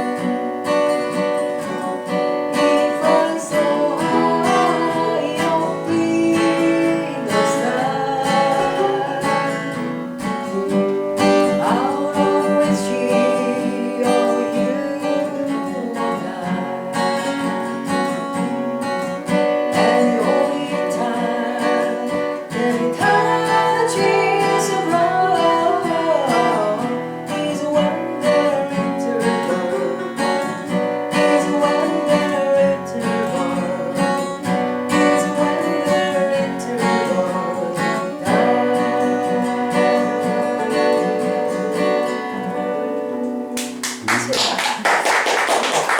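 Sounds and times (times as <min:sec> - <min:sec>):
person singing: 0:00.0 - 0:17.4, 0:19.6 - 0:44.8
acoustic guitar strumming: 0:00.0 - 0:45.9.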